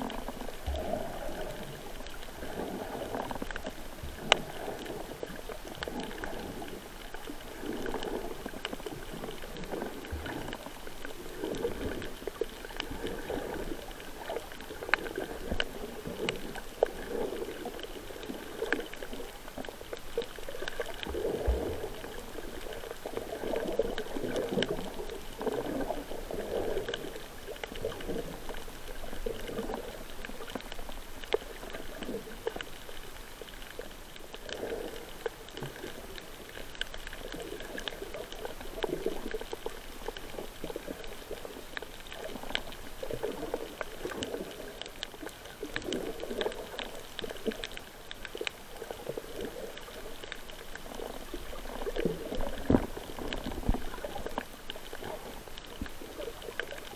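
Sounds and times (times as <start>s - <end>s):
muffled underwater churning: 0.0s - 56.9s
sharp clicks underwater: 0.0s - 56.9s.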